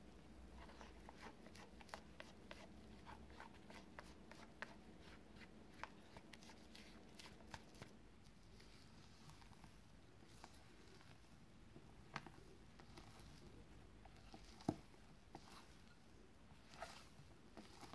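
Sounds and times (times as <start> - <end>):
soft clicks and wet patter of batter: 0.2 - 17.9.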